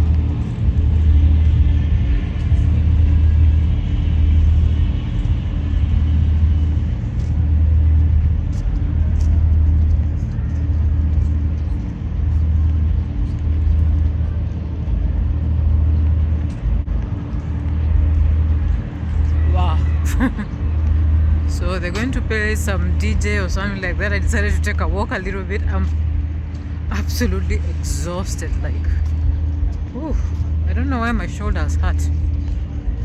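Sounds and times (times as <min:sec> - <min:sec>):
throbbing bass from sound system: 0:00.0 - 0:33.0.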